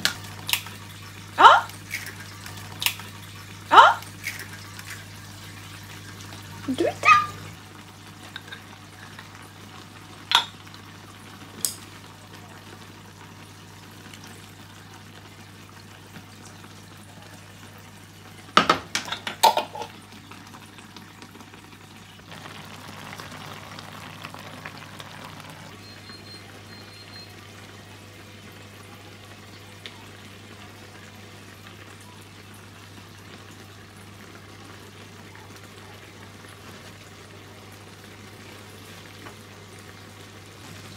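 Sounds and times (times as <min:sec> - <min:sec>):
noodles simmering in a pan: 0:00.0 - 0:40.9.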